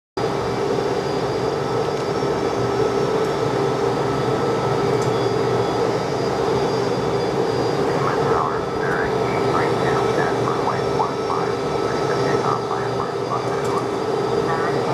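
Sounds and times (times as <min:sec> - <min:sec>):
jet engines droning with whine: 0:00.2 - 0:14.9.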